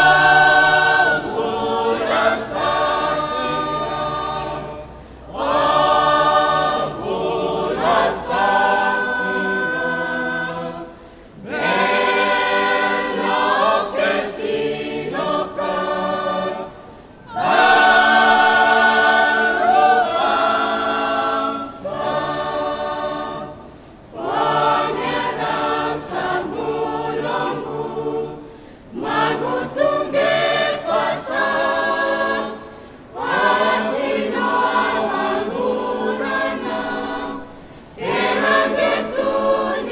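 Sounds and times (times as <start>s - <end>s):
choir singing a hymn a cappella: 0.0s - 39.9s.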